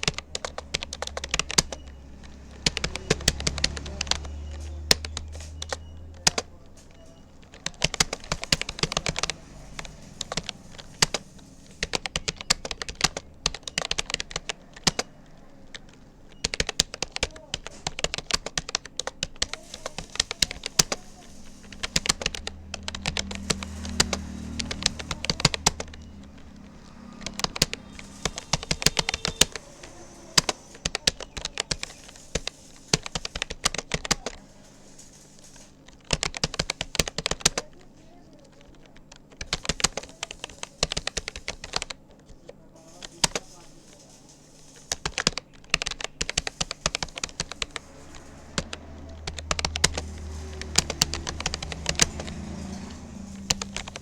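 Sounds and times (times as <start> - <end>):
keyboard typing clicks: 0.0 - 54.0.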